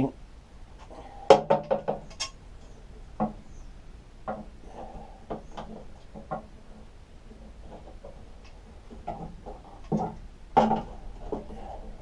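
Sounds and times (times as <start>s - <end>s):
faint rattling: 0.0s - 12.0s.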